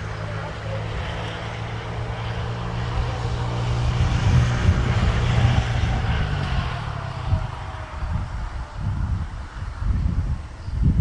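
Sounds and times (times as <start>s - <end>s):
diesel locomotive engine running hard: 0.0s - 10.5s
turbocharger whine: 0.0s - 10.8s.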